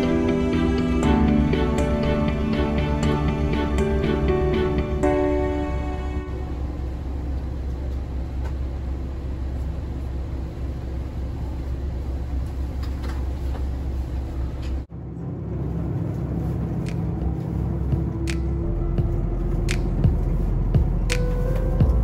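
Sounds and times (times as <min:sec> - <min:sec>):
diesel engine rumble: 0:00.0 - 0:22.0.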